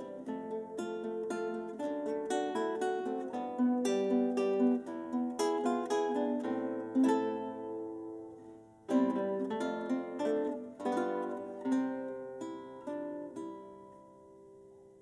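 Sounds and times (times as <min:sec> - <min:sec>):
classical guitar duet: 0:00.0 - 0:15.0.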